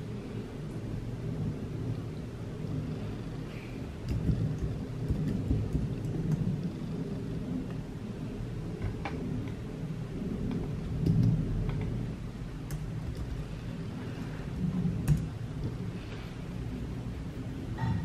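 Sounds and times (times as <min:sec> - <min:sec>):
rain rumbling outside: 0:00.0 - 0:18.0.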